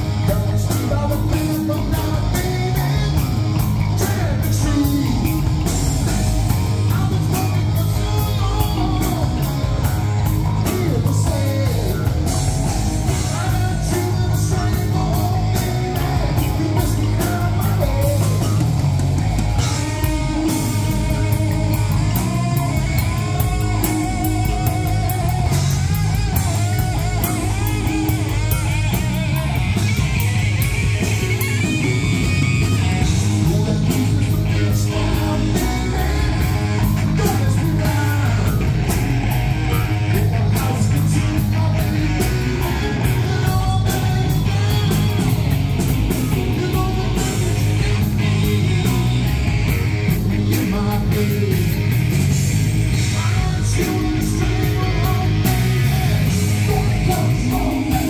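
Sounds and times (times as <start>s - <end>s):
bass guitar: 0.0s - 58.0s
drum kit with cymbal hits: 0.0s - 58.0s
electric guitars: 0.0s - 58.0s.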